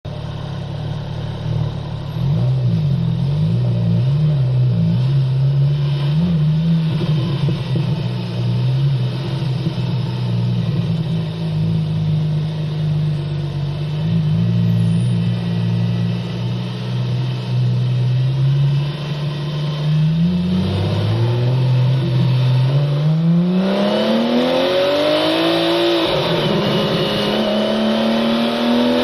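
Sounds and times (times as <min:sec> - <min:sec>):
road and wind noise: 0:00.0 - 0:29.0
car engine revving: 0:00.1 - 0:29.0.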